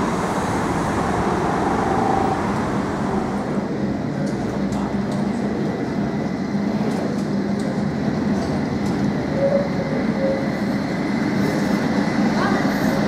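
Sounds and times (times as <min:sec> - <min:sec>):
tram running rumble: 0:00.0 - 0:13.0.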